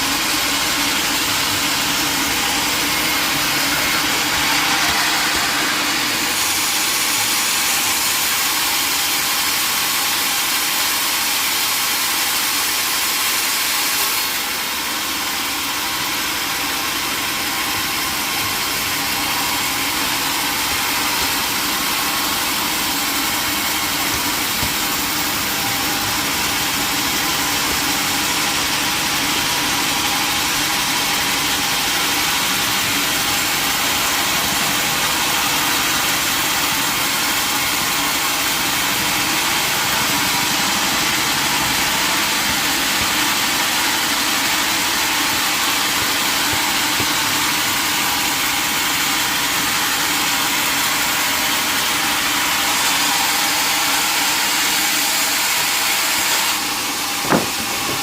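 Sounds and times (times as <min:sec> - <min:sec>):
sawmill machinery hissing: 0:00.0 - 0:58.0.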